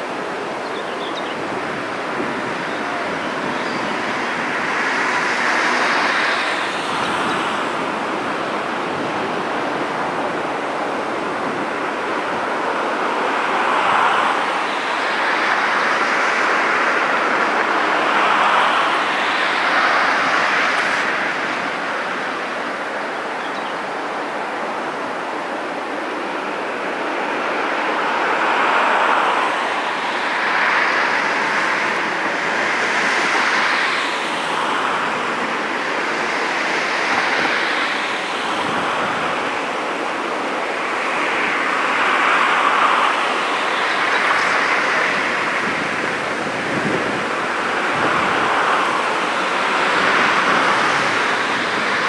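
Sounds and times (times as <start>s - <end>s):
wind buffeting microphone: 0.0s - 23.5s, 24.2s - 52.0s.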